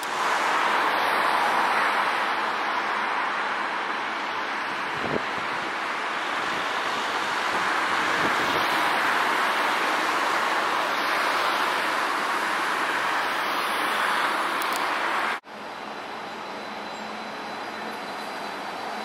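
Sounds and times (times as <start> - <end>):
rushing street ambience: 0.0 - 19.0.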